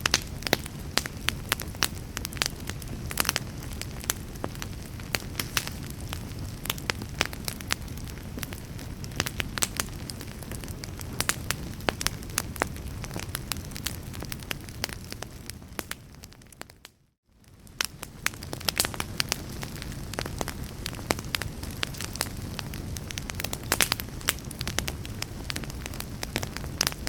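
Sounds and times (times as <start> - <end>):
low fire rumble: 0.0 - 27.0
wood fire crackling and popping: 0.0 - 27.0.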